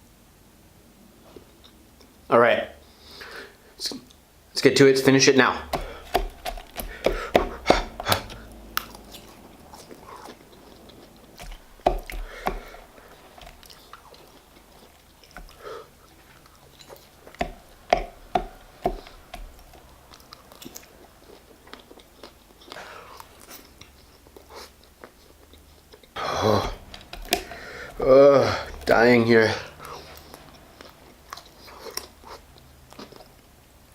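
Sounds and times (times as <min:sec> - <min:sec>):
wet chewing with mouth clicks: 0:05.6 - 0:33.9
biting into a burger: 0:05.7 - 0:29.0, 0:29.6 - 0:33.6.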